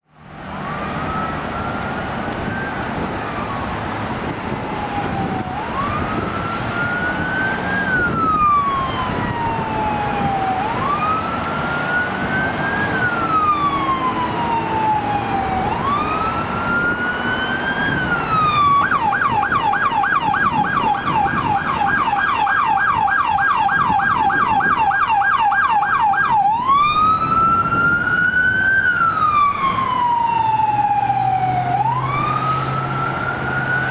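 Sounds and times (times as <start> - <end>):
emergency vehicle siren: 0.0 - 33.9
low rumble of traffic: 0.0 - 33.9.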